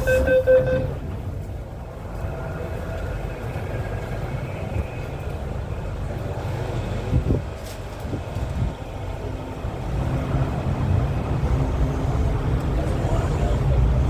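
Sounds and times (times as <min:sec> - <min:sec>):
train motors and wheels rumbling: 0:00.0 - 0:14.0.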